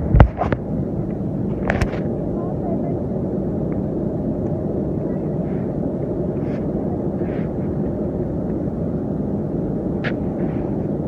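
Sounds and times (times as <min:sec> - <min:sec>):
airplane roar in flight: 0:00.0 - 0:11.0.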